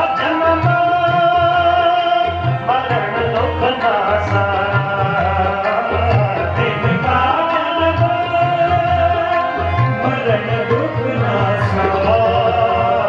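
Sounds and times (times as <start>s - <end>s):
harmonium chords: 0.0s - 13.0s
tabla drumming: 0.0s - 13.0s.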